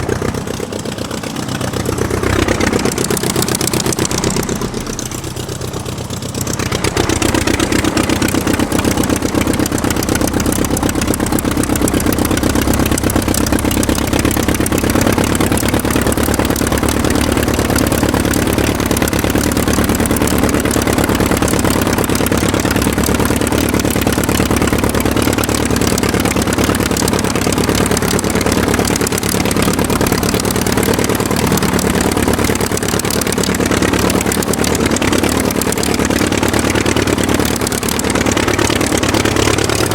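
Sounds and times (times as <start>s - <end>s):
aircraft engine running: 0.0s - 39.9s.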